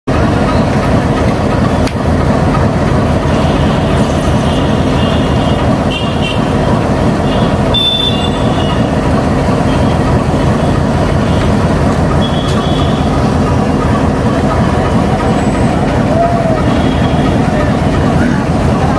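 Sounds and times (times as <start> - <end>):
diesel locomotive engine rumble: 0.0 - 18.9.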